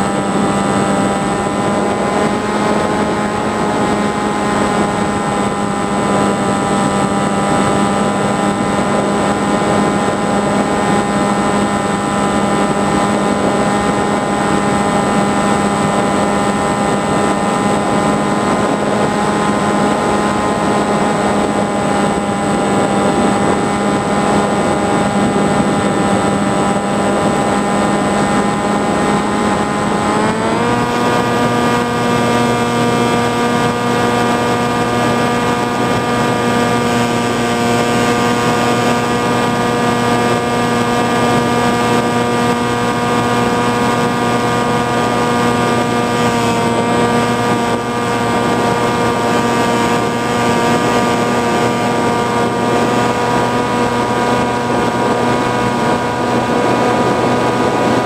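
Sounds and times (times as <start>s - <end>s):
drone motor whine: 0.0s - 58.0s
rushing air: 0.1s - 58.0s.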